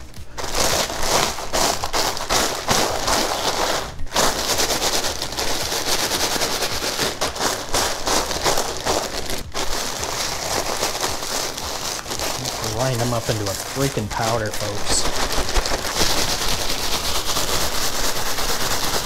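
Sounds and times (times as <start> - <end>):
chips crunching in plastic bag: 0.0 - 19.0.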